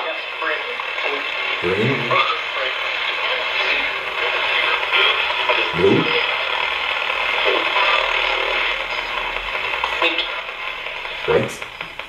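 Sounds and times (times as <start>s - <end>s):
broken radio fragments: 0.0s - 12.0s
radio static hiss: 0.0s - 12.0s.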